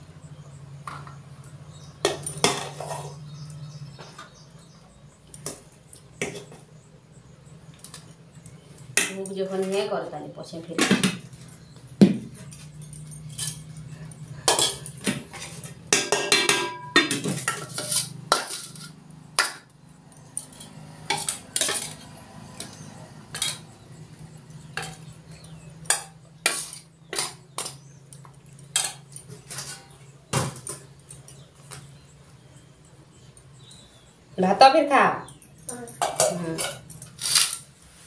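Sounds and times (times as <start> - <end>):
steel bowls and spoon clinking: 0.7 - 6.7, 7.6 - 32.0, 34.8 - 38.0.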